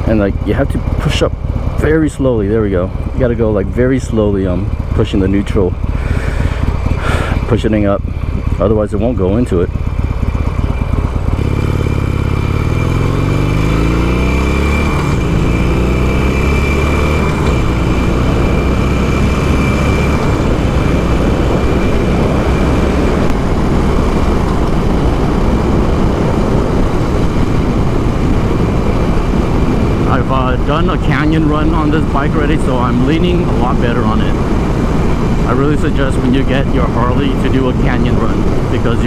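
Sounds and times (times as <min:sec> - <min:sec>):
motorcycle engine accelerating: 0:00.0 - 0:39.0
wind and road noise: 0:00.0 - 0:39.0.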